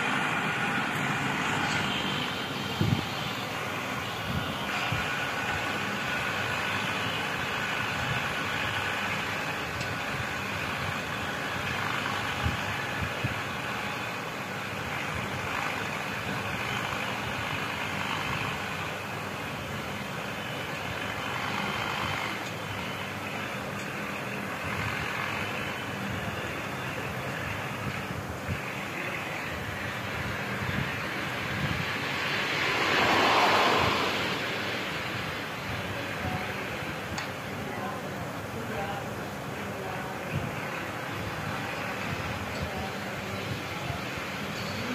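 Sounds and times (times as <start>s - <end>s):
outdoor noise: 0.0s - 44.9s
tractor diesel engine under load: 0.0s - 44.9s.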